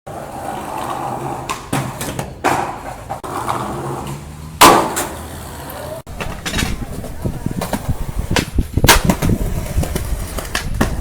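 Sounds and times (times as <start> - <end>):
skateboard wheels rolling on pavement: 0.1 - 11.0
skateboard clacks: 0.4 - 11.0.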